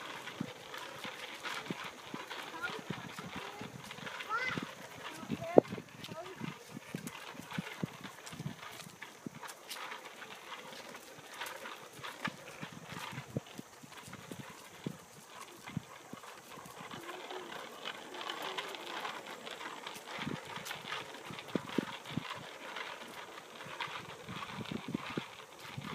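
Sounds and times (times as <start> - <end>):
child's bicycle clattering: 0.0 - 25.9.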